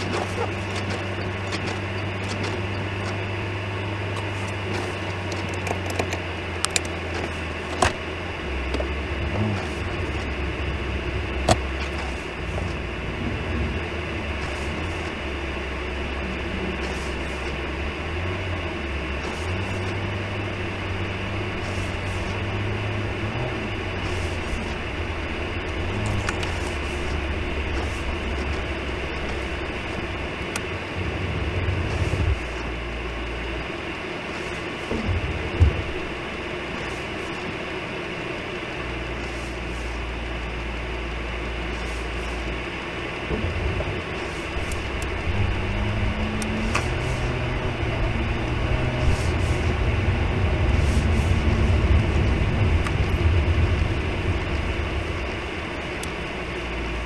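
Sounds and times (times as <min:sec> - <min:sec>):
car engine hum from cabin: 0:00.0 - 0:57.0
constant hiss: 0:00.0 - 0:57.0.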